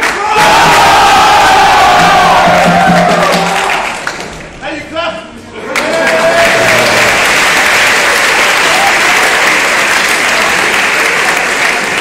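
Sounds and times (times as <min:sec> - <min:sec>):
audience applauding: 0:00.0 - 0:04.5, 0:05.6 - 0:12.0.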